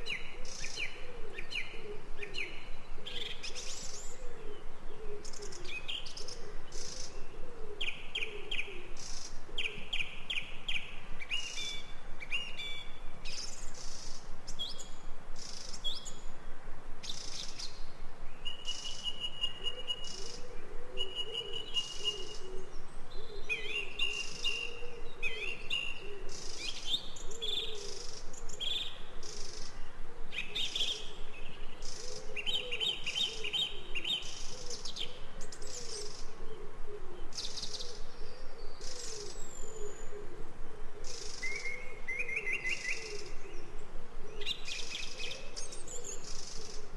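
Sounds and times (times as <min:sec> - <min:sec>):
low wavering bird calls: 0:00.0 - 0:46.9.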